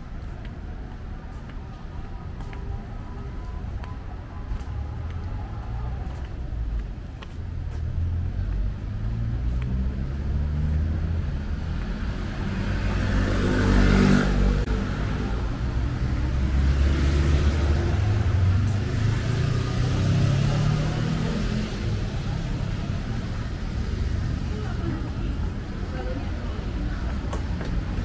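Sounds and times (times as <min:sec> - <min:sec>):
road traffic engines: 0:00.0 - 0:28.0.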